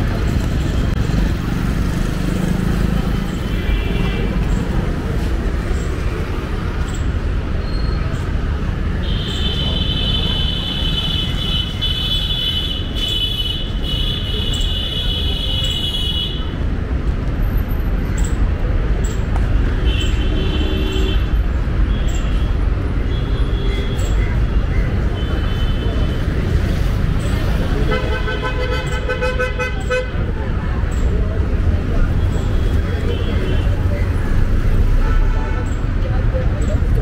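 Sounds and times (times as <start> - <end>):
rumble of passing vehicles: 0.0 - 37.0.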